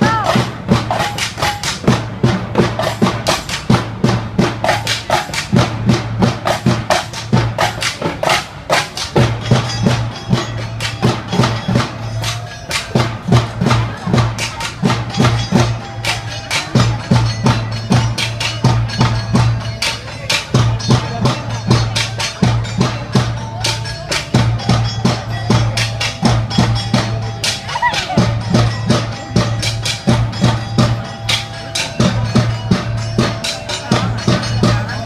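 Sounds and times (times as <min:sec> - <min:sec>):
group drumming fast rhythm: 0:00.0 - 0:35.0.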